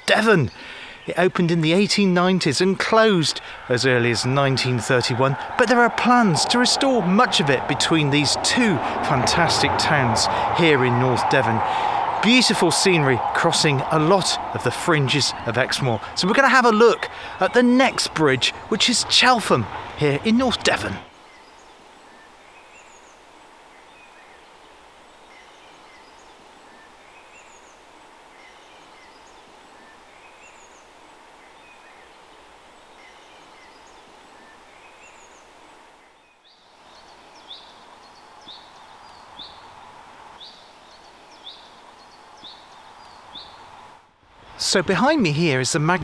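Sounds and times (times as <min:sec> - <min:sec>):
small birds chirping and trilling: 0:00.0 - 0:08.7, 0:09.3 - 0:45.0
steady background hiss: 0:00.0 - 0:46.0.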